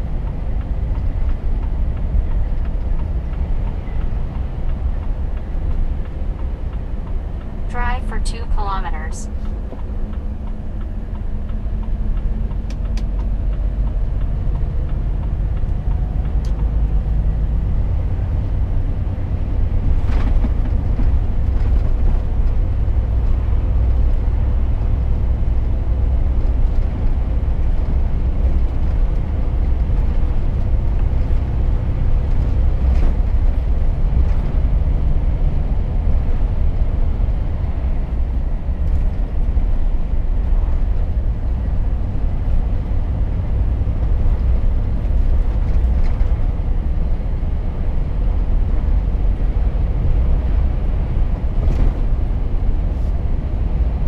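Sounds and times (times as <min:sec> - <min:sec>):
diesel engine drone: 0:00.0 - 0:54.0
tyre and road rumble: 0:09.3 - 0:54.0.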